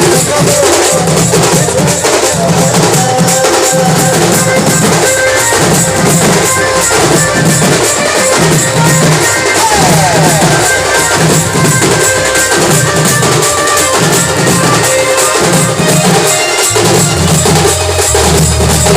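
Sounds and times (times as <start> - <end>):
drums beating steadily: 0.0 - 18.9
sustained melody line: 0.0 - 18.9.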